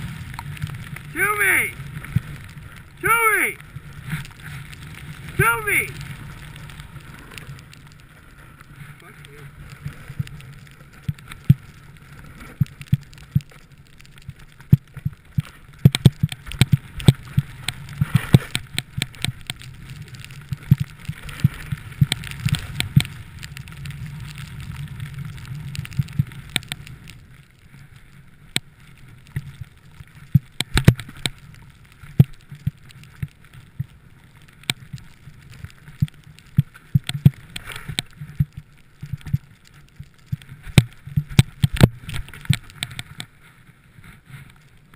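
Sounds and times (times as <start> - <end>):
rush of snow and wind: 0.0 - 44.9.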